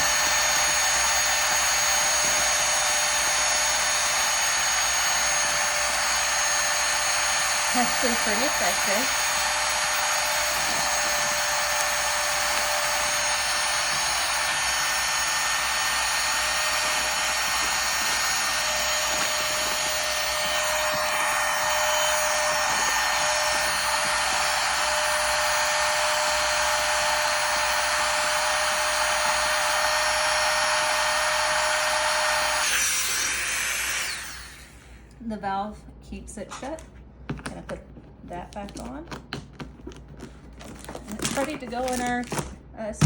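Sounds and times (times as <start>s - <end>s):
handheld vacuum pump whining: 0.0s - 35.2s, 38.4s - 42.5s.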